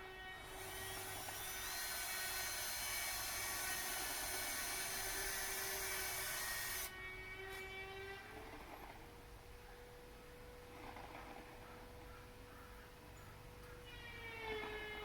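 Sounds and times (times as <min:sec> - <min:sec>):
power tool whining: 0:00.0 - 0:12.4, 0:13.6 - 0:15.0.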